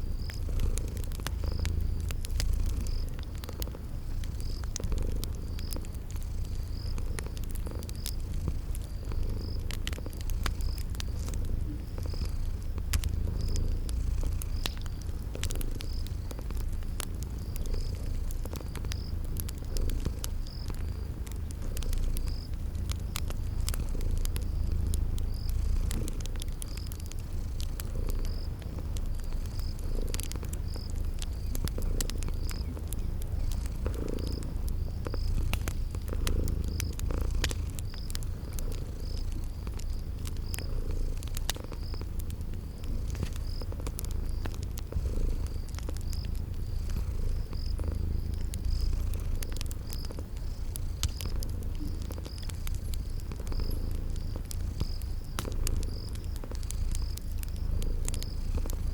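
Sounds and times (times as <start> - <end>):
cat purring: 0.0 - 58.9
cricket chirping: 0.0 - 58.9
wood fire crackling: 0.0 - 58.9.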